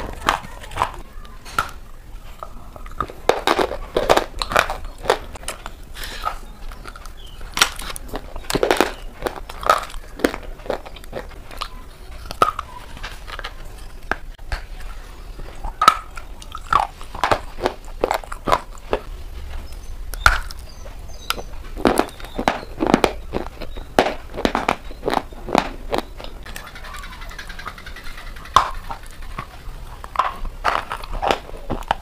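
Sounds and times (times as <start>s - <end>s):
bites and crunches: 0.0s - 26.6s, 28.6s - 32.0s
chewing: 0.0s - 32.0s.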